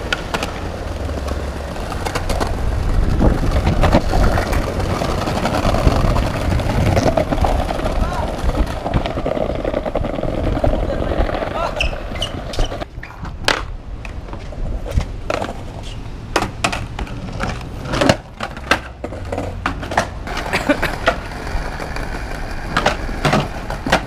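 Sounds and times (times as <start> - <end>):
skateboard wheels rumbling on paving: 0.0 - 24.0
skateboards clacking: 0.0 - 24.0.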